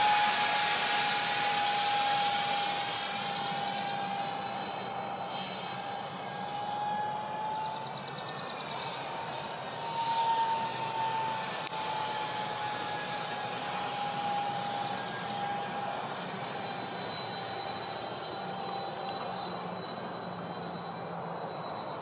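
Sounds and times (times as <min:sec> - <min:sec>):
model jet fans whining: 0:00.0 - 0:22.0.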